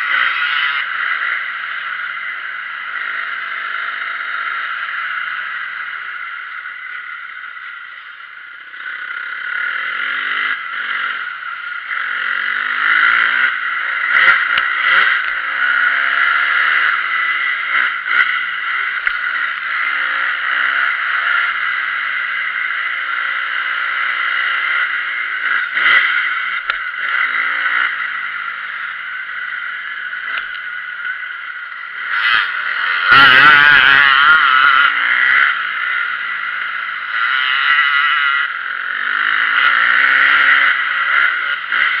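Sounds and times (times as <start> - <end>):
motocross engines revving: 0.0 - 7.8, 8.5 - 42.0.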